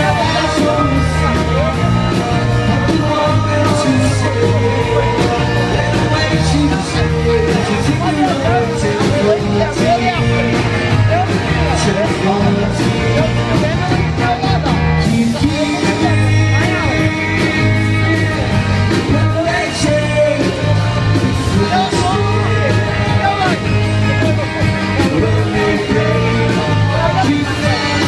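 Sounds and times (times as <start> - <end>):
bass guitar: 0.0 - 28.0
electric guitars: 0.0 - 28.0
man singing lead vocals: 0.0 - 28.0
steady drum beat: 0.0 - 28.0.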